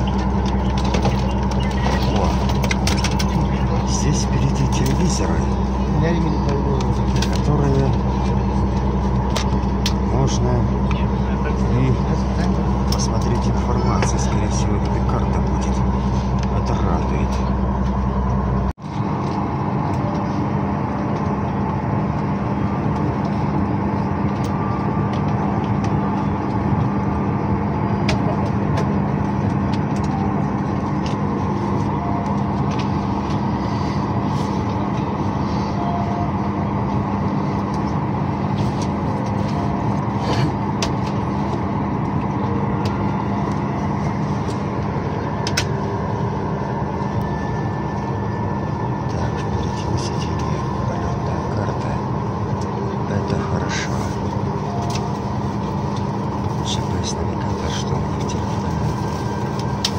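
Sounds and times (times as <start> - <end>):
ventilation air rushing: 0.0 - 59.9.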